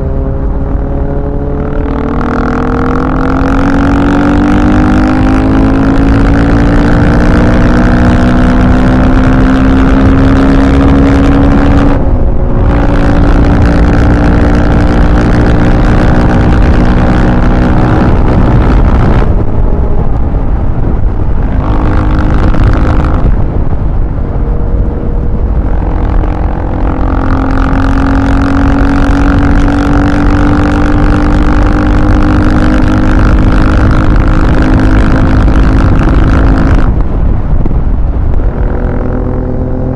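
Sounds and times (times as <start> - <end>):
engine running at high revs: 0.0 - 39.9.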